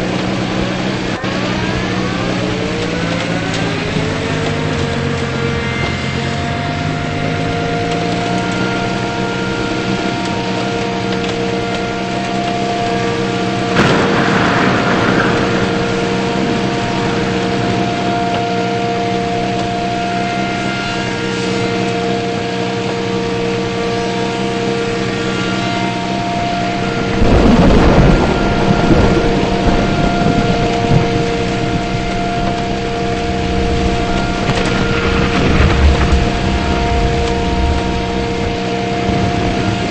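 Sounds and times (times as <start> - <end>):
car engine and road noise: 0.0 - 39.9
rushing noise: 0.0 - 39.9.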